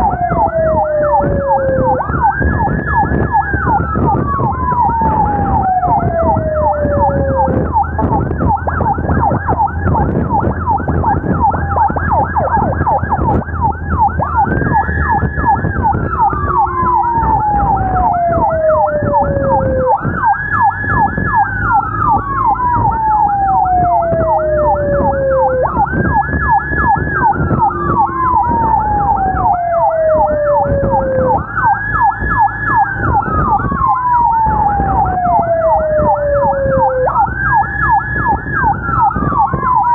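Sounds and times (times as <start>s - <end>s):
engine and road rumble: 0.0s - 39.9s
fast yelping siren: 0.0s - 39.9s
slow wailing siren: 0.0s - 39.9s.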